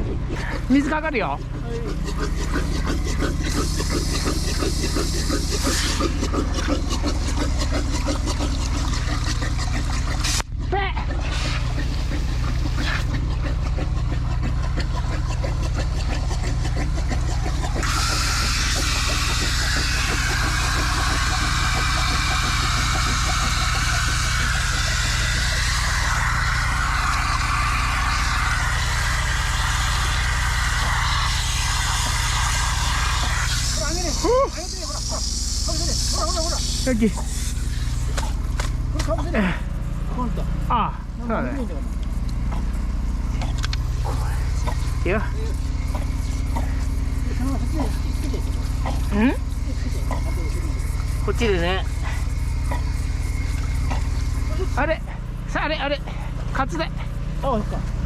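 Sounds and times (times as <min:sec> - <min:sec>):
pressurised water spraying: 0:00.0 - 0:40.4, 0:41.7 - 0:58.0
engine running: 0:00.0 - 0:58.0.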